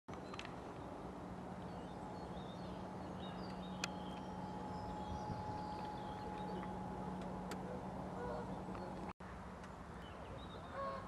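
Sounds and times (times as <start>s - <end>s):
birds chirping: 0.1s - 11.0s
steady low hum: 0.1s - 11.0s.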